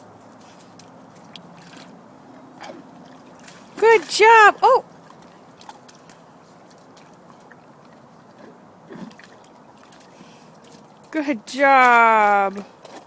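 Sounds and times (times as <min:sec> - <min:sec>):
water trickling and lapping: 0:00.0 - 0:13.0.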